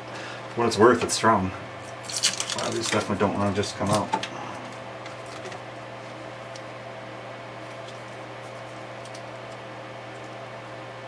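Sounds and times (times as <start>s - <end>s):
low electrical hum and hiss: 0.0s - 11.0s.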